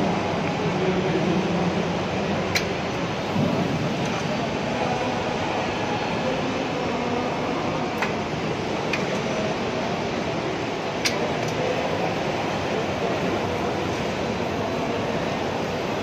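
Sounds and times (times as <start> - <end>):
exhibition hall din: 0.0 - 16.0
roller conveyor running: 0.0 - 16.0.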